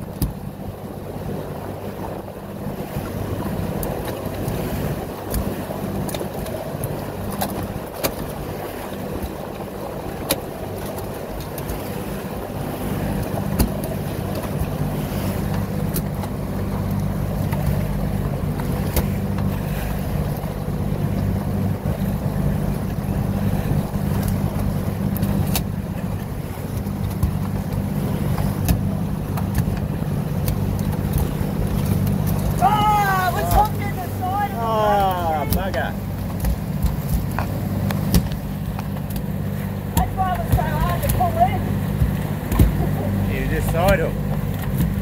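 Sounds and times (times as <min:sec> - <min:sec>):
boat engine humming: 0:00.0 - 0:45.0
water rushing along hull: 0:00.0 - 0:45.0.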